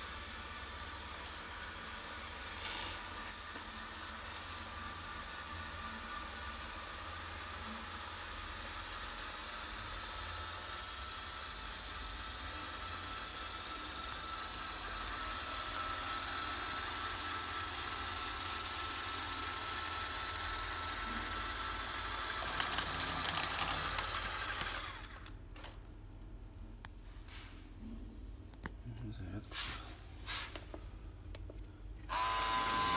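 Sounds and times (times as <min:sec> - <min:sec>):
robot vacuum cleaner whirring: 0:00.0 - 0:25.8, 0:32.1 - 0:32.9.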